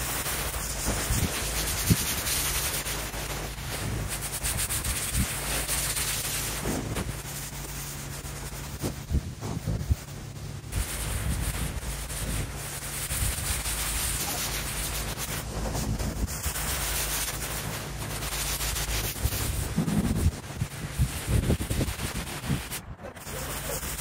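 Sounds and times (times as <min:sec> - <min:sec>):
pressure washer jet hissing: 0:00.0 - 0:24.0.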